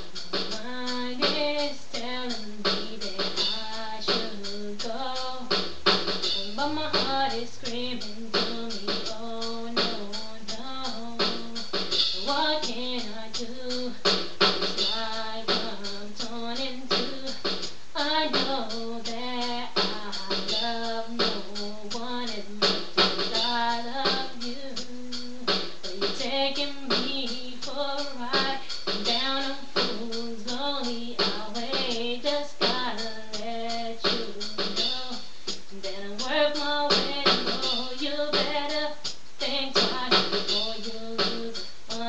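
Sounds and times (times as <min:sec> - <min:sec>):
song with vocals over a beat: 0:00.0 - 0:42.0.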